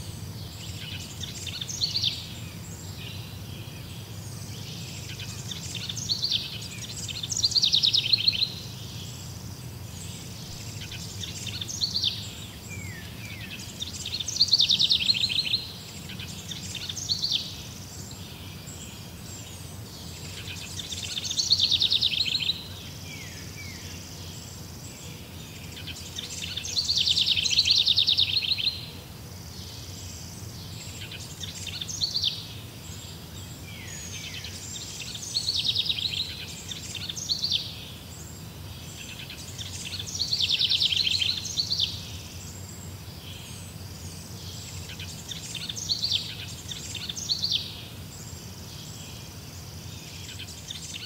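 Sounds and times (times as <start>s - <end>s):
songbird trilling: 0.0s - 29.0s, 29.6s - 51.0s.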